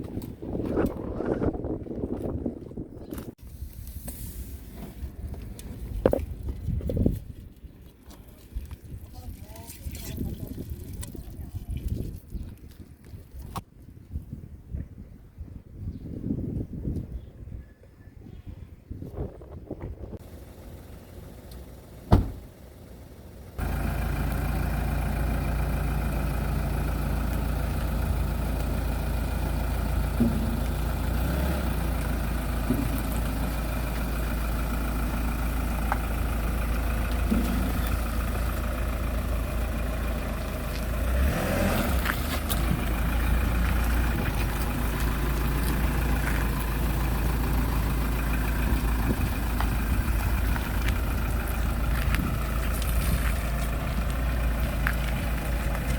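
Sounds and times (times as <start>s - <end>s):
engine-like hum: 0.0s - 13.7s, 18.8s - 55.9s.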